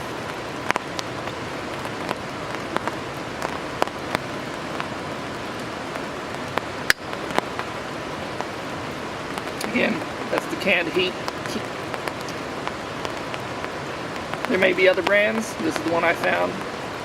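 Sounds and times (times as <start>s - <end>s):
heavy raindrops ticking: 0.0s - 17.0s
steady rain: 0.0s - 17.0s.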